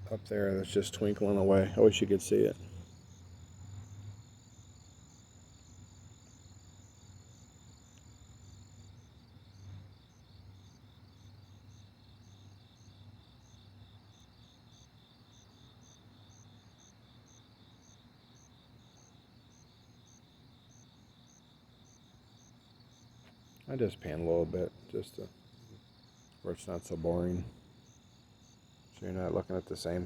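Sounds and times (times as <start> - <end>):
crickets chirping: 0.0 - 30.0
faint low hum: 0.0 - 30.0
higher insect chirping irregularly: 0.0 - 30.0
steady high insect trill: 0.0 - 30.0.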